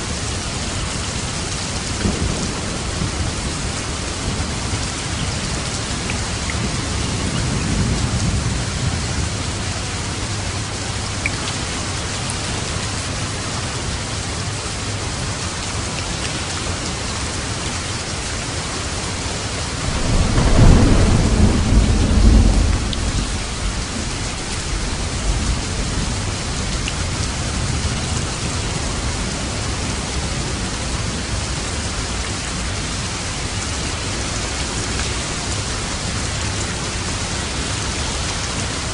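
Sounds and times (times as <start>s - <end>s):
heavy rain falling: 0.0s - 38.9s
thunder rumbling: 0.6s - 13.5s, 19.8s - 38.9s.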